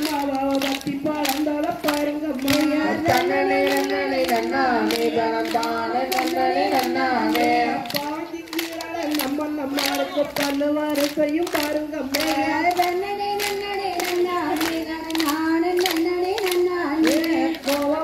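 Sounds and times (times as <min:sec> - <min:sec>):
hand claps: 0:00.0 - 0:18.0
women singing a folk song: 0:00.0 - 0:18.0.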